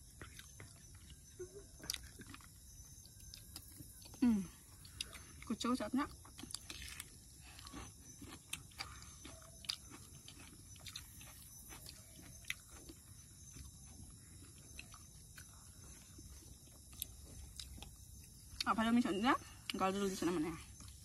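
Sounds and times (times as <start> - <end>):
chewing and mouth smacking: 0.0 - 18.7.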